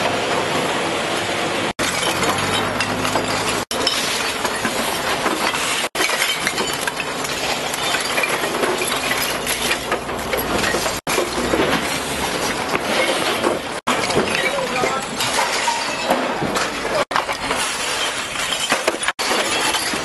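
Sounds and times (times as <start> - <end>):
glass bottles clinking: 1.8 - 20.0.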